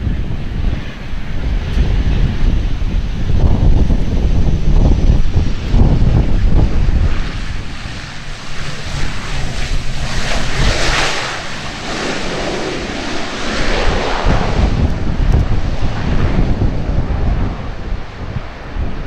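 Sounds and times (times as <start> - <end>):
turboprop engines and propellers: 0.0 - 19.0
wind buffeting microphone: 0.0 - 19.0.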